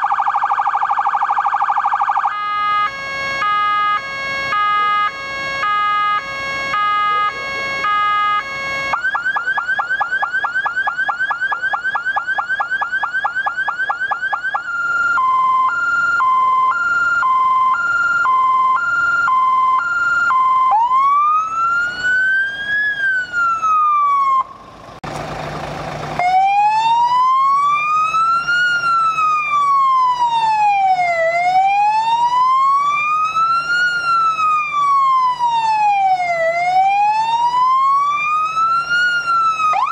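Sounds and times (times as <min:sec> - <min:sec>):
electronic siren: 0:00.0 - 0:25.0, 0:26.2 - 0:39.9.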